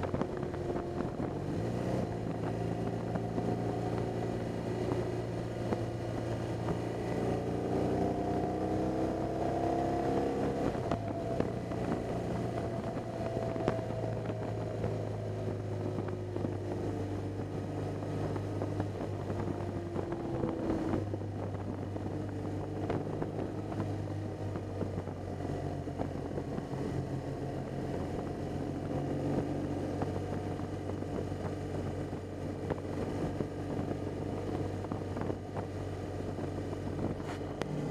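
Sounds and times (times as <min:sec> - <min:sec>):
motorcycle engine running: 0:00.0 - 0:37.9
wind rushing over microphone: 0:00.0 - 0:37.9.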